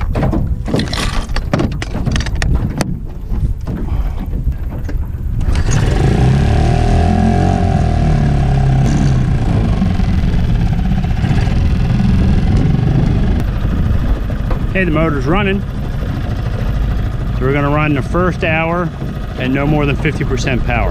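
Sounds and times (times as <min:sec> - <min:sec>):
outboard motor running: 0:00.0 - 0:20.9.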